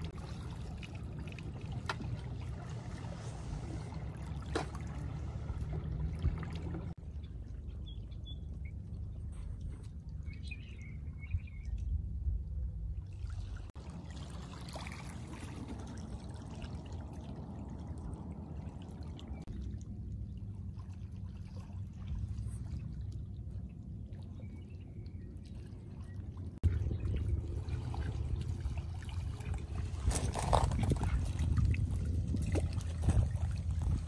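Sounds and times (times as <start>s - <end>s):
water lapping on pebbles: 0.0s - 7.2s, 13.1s - 24.5s, 25.1s - 34.0s
steady low rumble: 0.0s - 34.0s.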